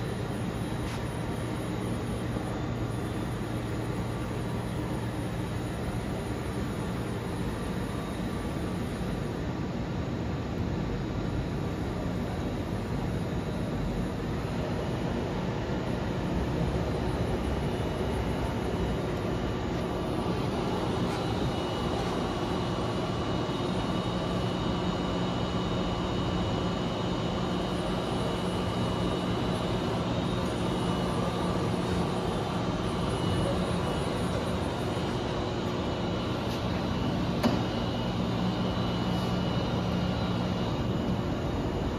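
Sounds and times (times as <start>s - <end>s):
machine hum with faint whine: 0.0s - 41.9s.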